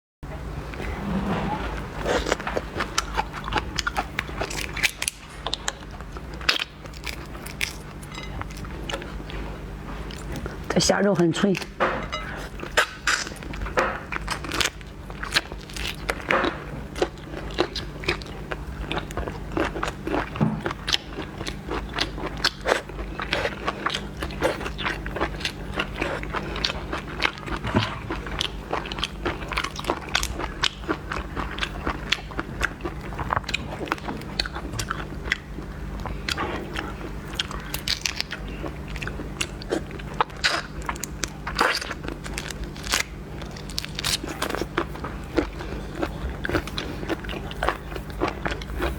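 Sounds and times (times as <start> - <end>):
person chewing and crunching food: 1.0 - 10.8, 11.4 - 48.9.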